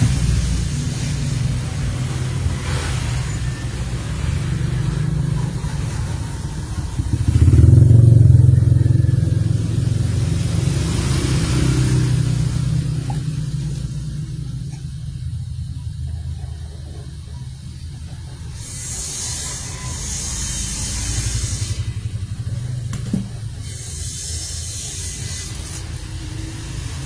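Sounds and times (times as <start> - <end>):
low engine drone: 0.0 - 27.0.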